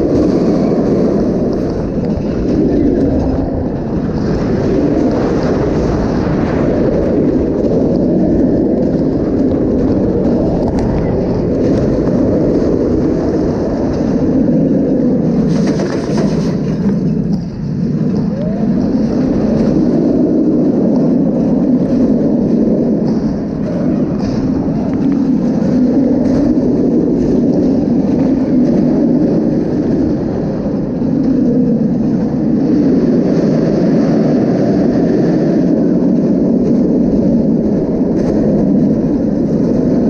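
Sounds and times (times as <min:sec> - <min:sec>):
roller coaster rumbling on track: 0:00.0 - 0:40.0
wind roaring on microphone: 0:00.0 - 0:40.0.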